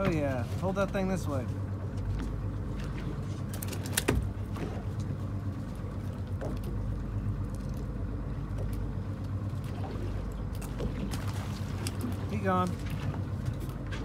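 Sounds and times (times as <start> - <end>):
boat motor idling: 0.0 - 14.0.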